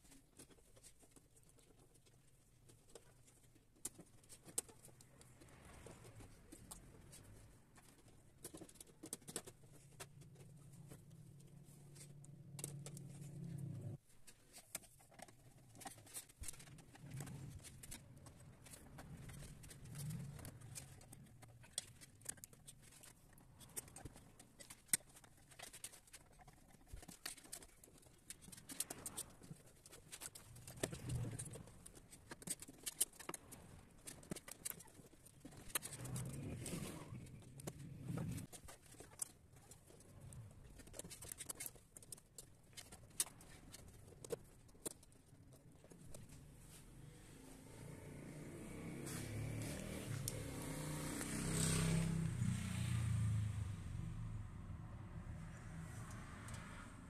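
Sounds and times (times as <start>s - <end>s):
clicks and rustles of wires: 0.0s - 52.5s.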